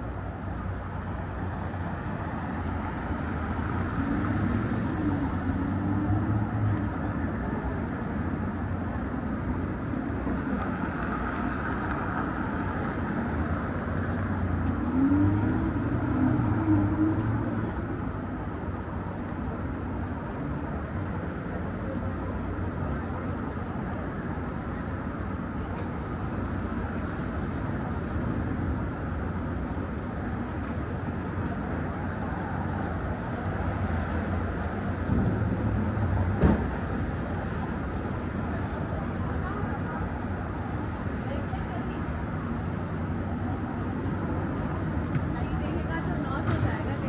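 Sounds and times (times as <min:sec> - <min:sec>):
city traffic hum: 0:00.0 - 0:47.0
vehicles passing close: 0:00.0 - 0:47.0.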